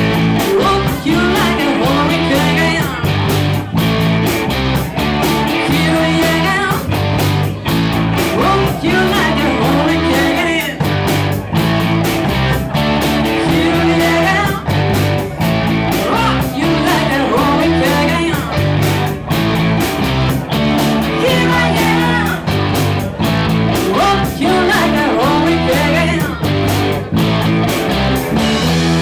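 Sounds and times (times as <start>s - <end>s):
electric guitar lead line bending: 0.0s - 29.0s
rock music: 0.0s - 29.0s.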